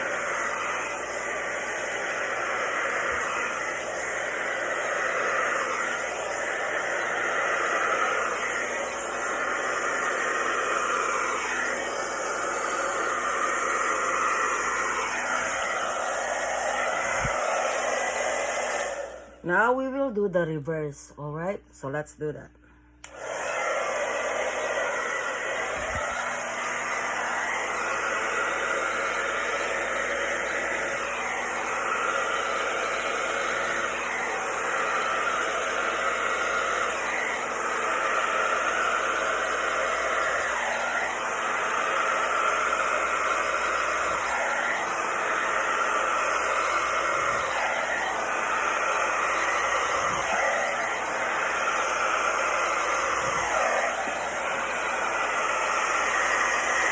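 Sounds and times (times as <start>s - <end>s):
hair dryer blowing: 0.0s - 20.3s, 23.0s - 56.9s.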